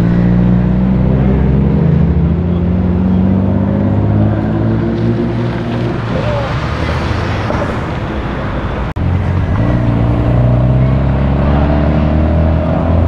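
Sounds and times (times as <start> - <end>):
car engine and exhaust drone: 0.0 - 13.0.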